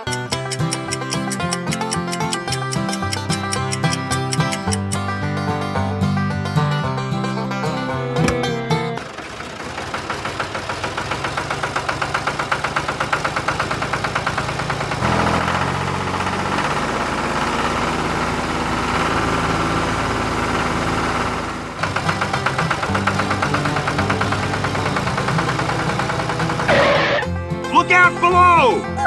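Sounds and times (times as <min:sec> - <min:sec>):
small tractor engine chugging: 0:00.0 - 0:06.0, 0:06.8 - 0:28.8.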